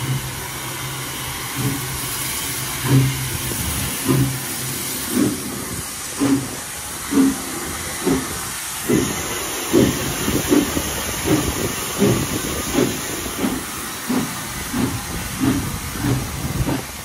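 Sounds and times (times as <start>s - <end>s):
steam hissing: 0.0s - 17.0s
steam locomotive chuffing: 0.0s - 17.0s.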